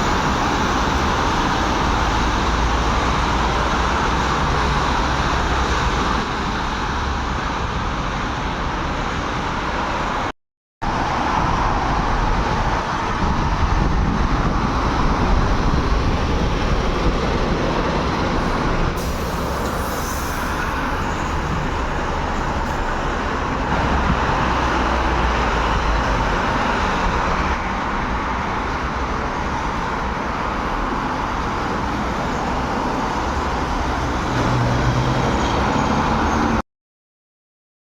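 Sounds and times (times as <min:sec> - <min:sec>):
heavy road traffic rumble: 0:00.0 - 0:36.6.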